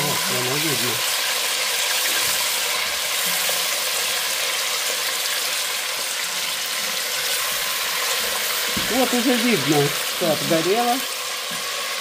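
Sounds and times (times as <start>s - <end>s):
ribs sizzling in hot oil: 0.0s - 12.0s.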